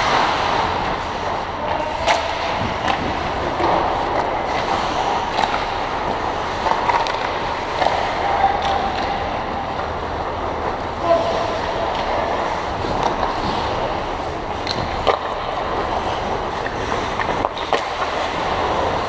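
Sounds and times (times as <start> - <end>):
hockey sticks and puck clicking: 0.0 - 19.0
skate blades on ice: 0.0 - 19.0.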